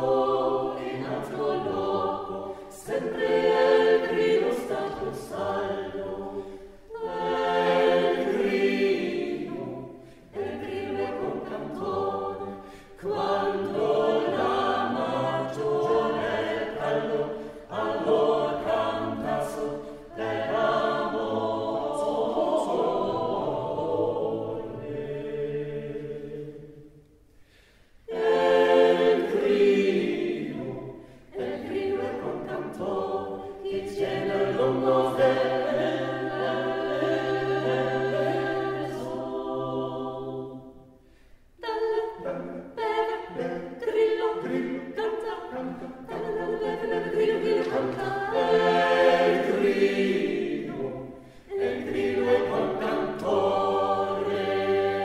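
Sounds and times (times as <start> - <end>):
vocal ensemble singing a cappella: 0.0 - 55.0.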